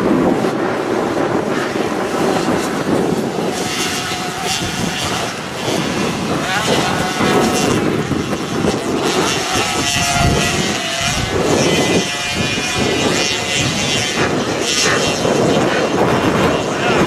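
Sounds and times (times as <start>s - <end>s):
motocross bikes racing: 0.0s - 17.0s.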